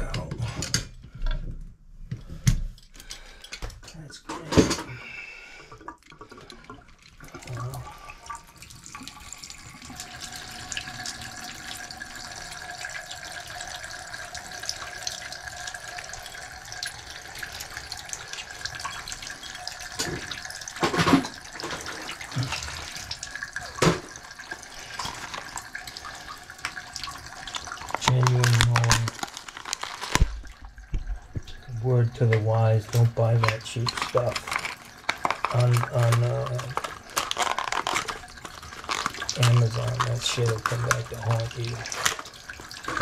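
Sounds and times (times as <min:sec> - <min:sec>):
water hissing from valve: 0:05.1 - 0:43.0.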